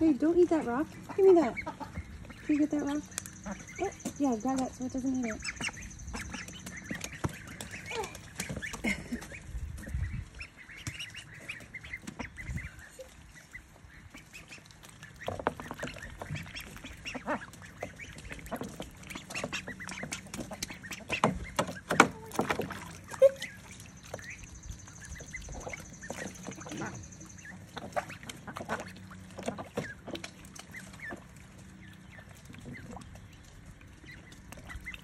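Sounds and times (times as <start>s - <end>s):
ducklings and goslings peeping: 0.0s - 35.0s
water splashing: 0.0s - 35.0s.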